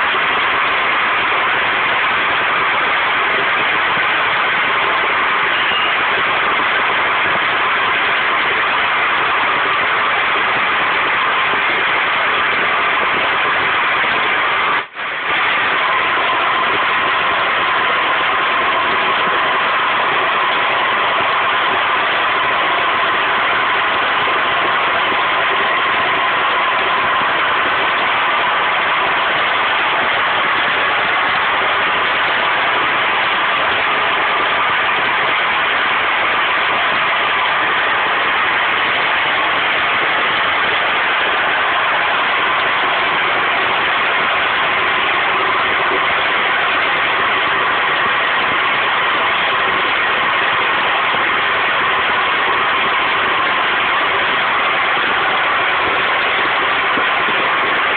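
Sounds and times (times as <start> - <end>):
gas rushing roar: 0.0 - 57.9.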